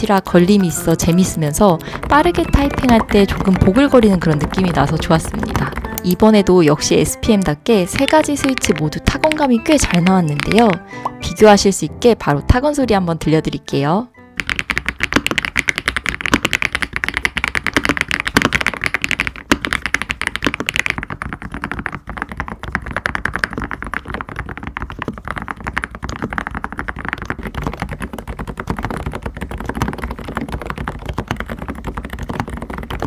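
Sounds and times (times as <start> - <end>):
mechanical keyboard typing: 0.0 - 11.2, 14.4 - 33.0.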